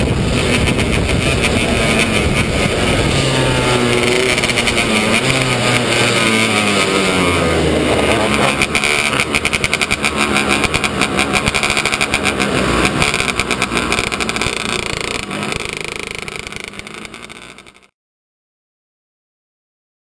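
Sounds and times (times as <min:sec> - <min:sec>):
racing engine pulsing: 0:00.0 - 0:17.9.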